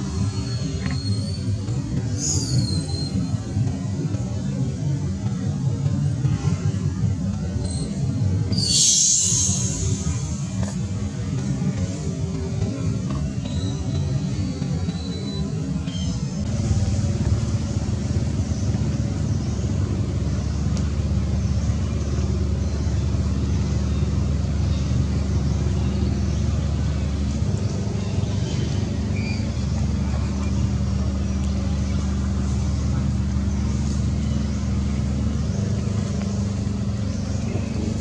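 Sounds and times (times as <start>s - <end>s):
low traffic rumble: 0.0s - 38.0s.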